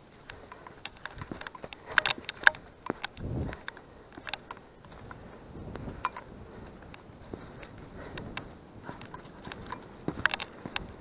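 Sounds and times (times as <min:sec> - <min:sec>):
footsteps on a trail: 0:00.0 - 0:11.0
light clicks and knocks: 0:00.2 - 0:11.0.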